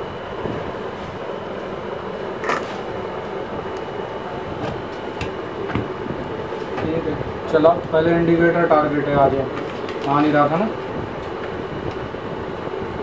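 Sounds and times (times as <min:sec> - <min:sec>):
workshop background rumble: 0:00.0 - 0:13.0.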